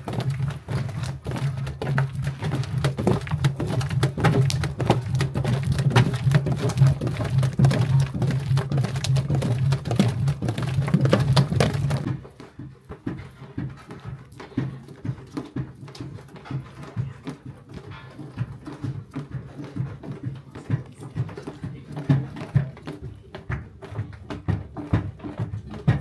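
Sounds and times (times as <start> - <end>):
wooden paddle knocking metal pot: 0.0 - 26.0.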